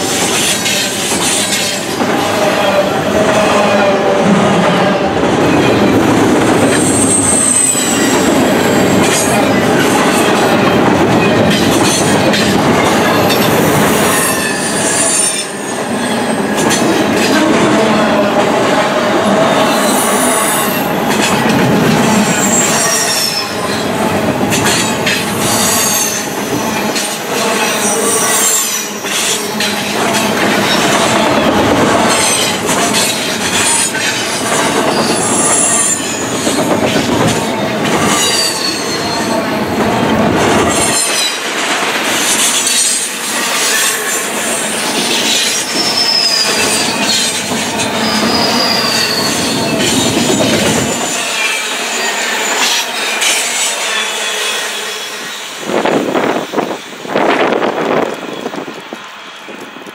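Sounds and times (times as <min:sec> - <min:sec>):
train rolling rumble: 0:00.0 - 0:59.9
train wheels squealing on rails: 0:00.0 - 0:59.9.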